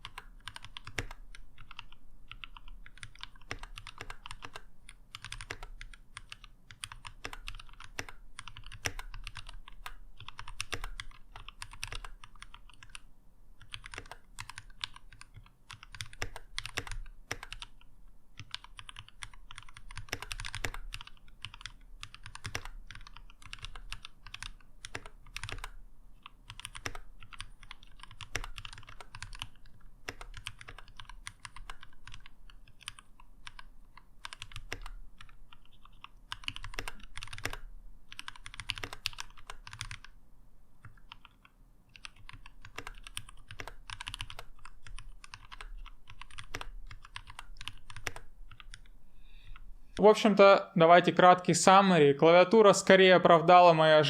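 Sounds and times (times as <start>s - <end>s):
mechanical keyboard typing: 0.0s - 40.2s, 40.8s - 50.1s.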